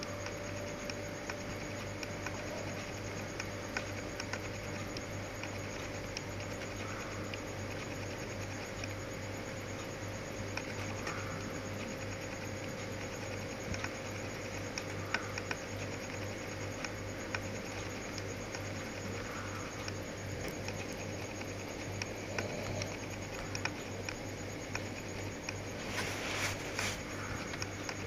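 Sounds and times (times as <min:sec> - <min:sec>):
faint clicks and ticks: 0:00.0 - 0:28.0.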